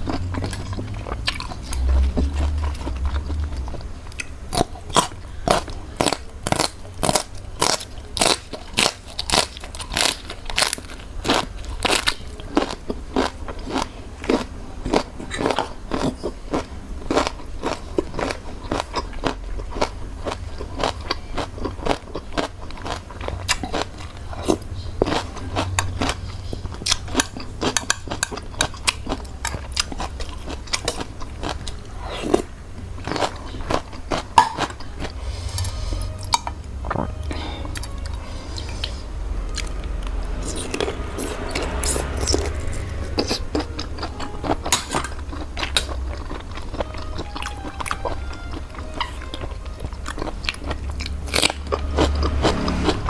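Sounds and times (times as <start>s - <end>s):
crisp crunching and chewing: 0.0s - 38.7s, 39.5s - 53.0s.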